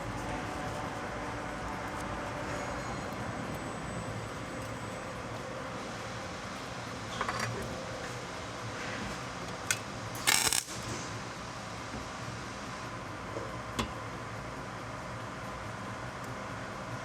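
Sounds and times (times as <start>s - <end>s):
shop machinery hum: 0.0s - 17.0s.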